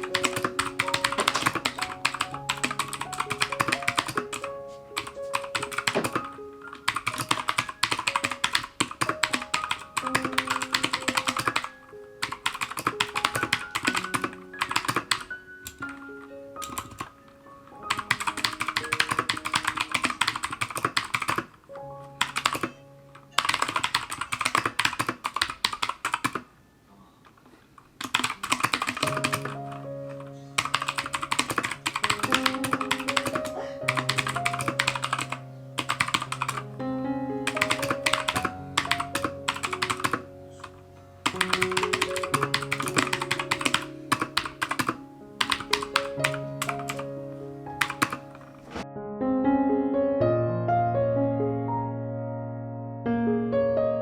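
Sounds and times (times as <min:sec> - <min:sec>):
clicky mechanical keyboard typing: 0:00.0 - 0:16.0, 0:16.6 - 0:17.1, 0:17.8 - 0:21.6, 0:22.2 - 0:26.5, 0:28.0 - 0:36.7, 0:37.4 - 0:47.1, 0:47.8 - 0:48.8.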